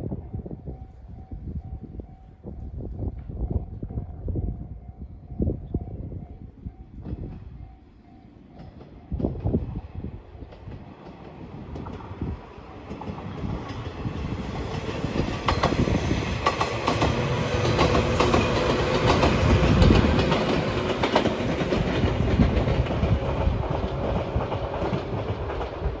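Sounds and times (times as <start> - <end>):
electric train passing: 0.0 - 26.0.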